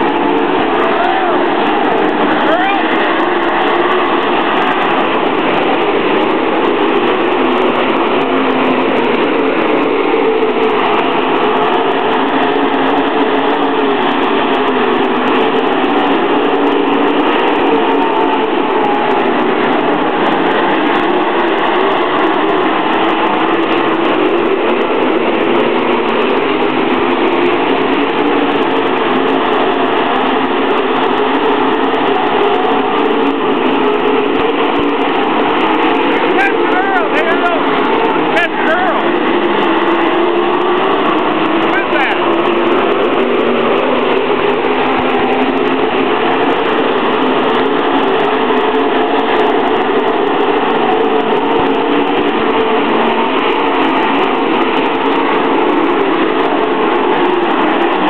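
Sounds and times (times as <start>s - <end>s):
race car engines roaring: 0.0s - 58.0s.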